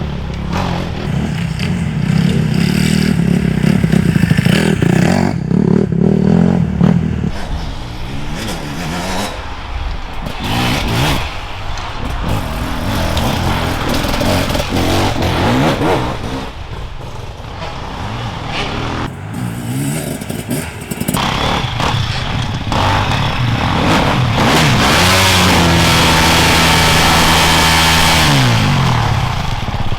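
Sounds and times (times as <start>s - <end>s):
motorcycle engines revving: 0.0s - 29.9s.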